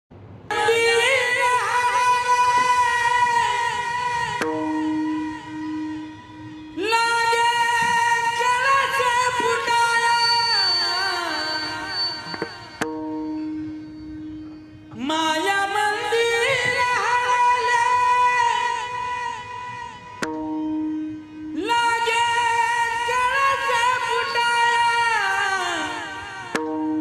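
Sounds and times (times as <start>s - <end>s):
instrument holding steady note: 0.5s - 27.0s.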